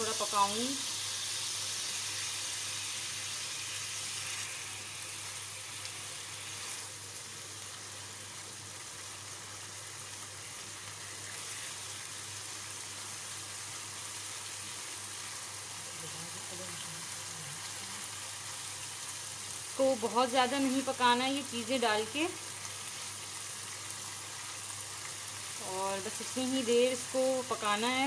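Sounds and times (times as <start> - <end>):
sauce sizzling in a frying pan: 0.0 - 28.0.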